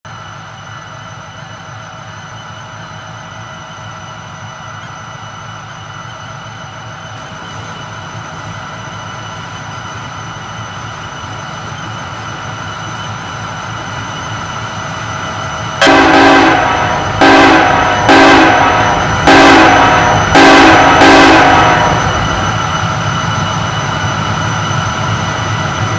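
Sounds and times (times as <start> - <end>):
locomotive engine hum: 0.1 - 25.9
locomotive whine: 0.1 - 25.9.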